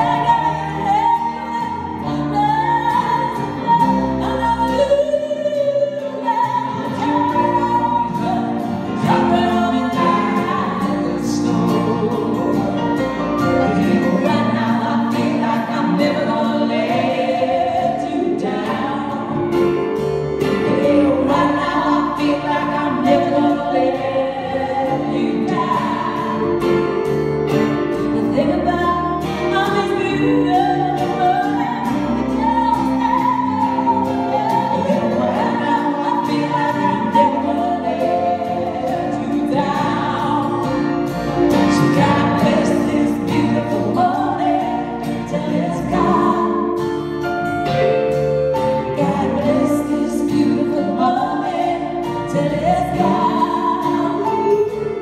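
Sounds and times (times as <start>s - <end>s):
woman and man singing: 0.0s - 27.2s, 27.9s - 47.1s, 48.8s - 55.0s
live band playing: 0.0s - 55.0s.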